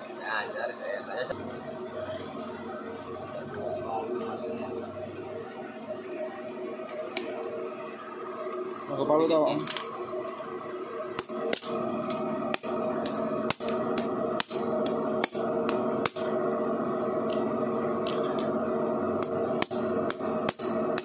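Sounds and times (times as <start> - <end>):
steady hum with held tones: 0.0 - 21.0.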